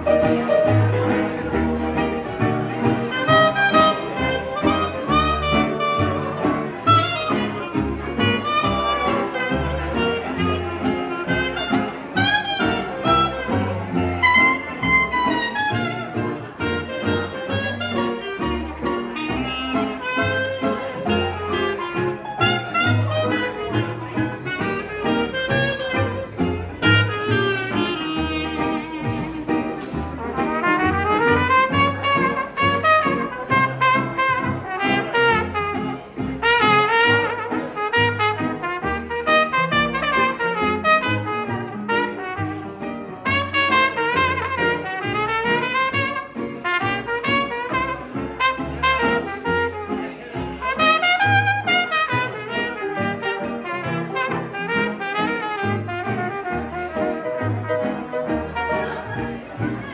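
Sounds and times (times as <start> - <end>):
horn melody: 3.0 - 29.5, 30.2 - 59.0.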